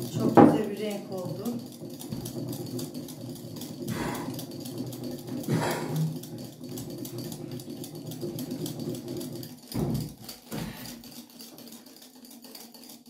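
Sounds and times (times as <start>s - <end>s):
whisk beating batter in glass bowl: 0.0s - 13.0s.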